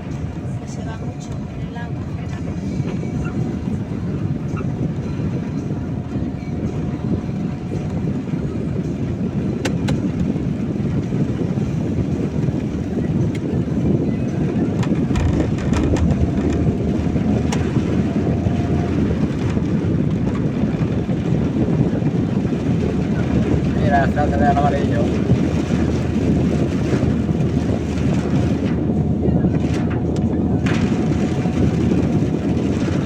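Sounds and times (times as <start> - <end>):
car engine: 0.0 - 33.0
tyre and road noise: 0.0 - 33.0.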